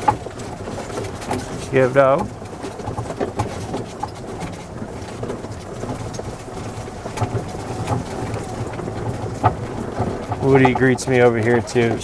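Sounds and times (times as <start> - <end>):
golf cart hum: 0.0 - 12.0
tyres and body rattling: 0.0 - 12.0.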